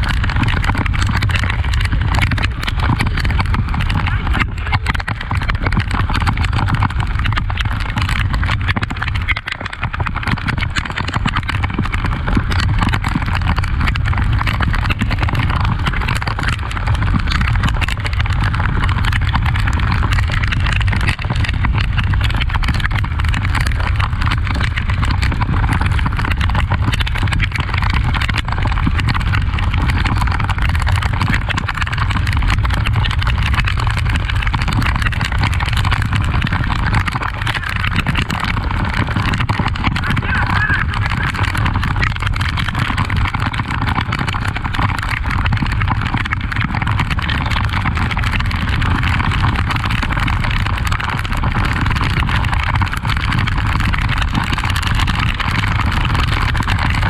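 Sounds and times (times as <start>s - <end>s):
motorcycle engine running: 0.0s - 51.5s
wind and road noise: 0.0s - 57.0s.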